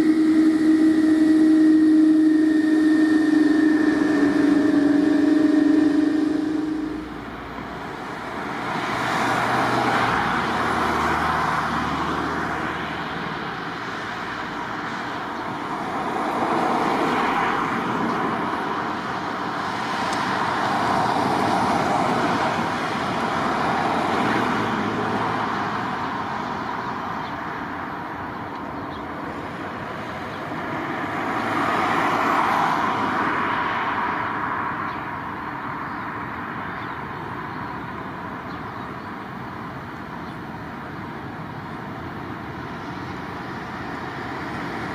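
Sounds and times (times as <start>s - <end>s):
vehicles passing: 0.0s - 44.9s.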